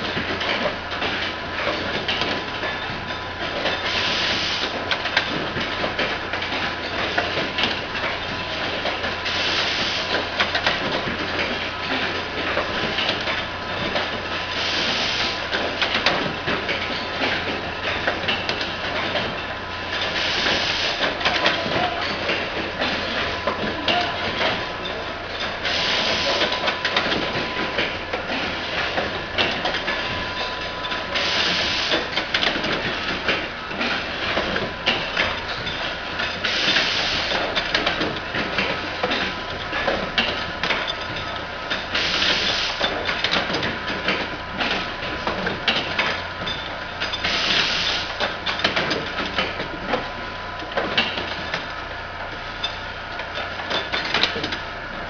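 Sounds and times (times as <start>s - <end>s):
machine rattling and clicking: 0.0s - 4.0s, 4.8s - 54.9s.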